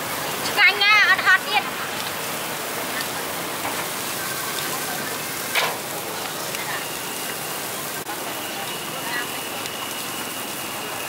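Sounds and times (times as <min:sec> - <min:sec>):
meat sizzling on grill: 0:00.0 - 0:11.0.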